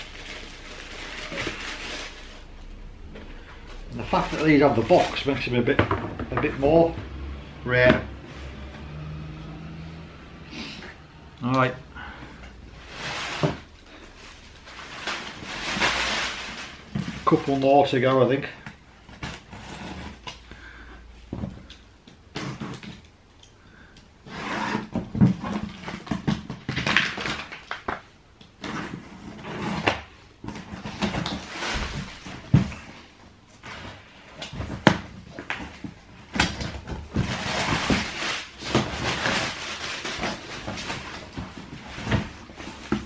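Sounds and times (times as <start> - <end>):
cardboard rustling and scraping: 0.0 - 8.9, 12.4 - 21.7, 24.2 - 43.0.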